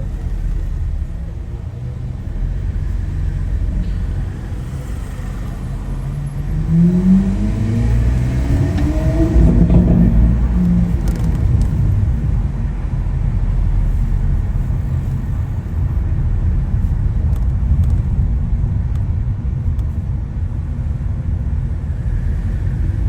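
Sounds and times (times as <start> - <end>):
car engine deep rumble: 0.0 - 23.0.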